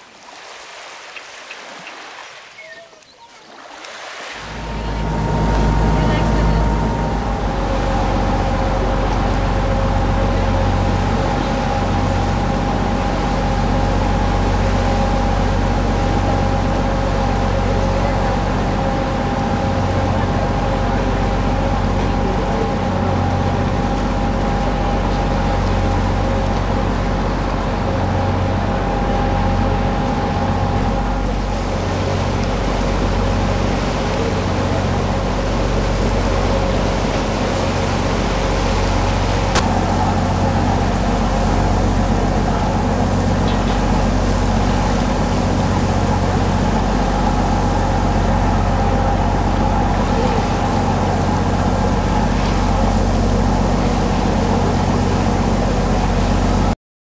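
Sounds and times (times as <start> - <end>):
water washing past hull: 0.0 - 56.8
boat engine droning: 1.7 - 56.8.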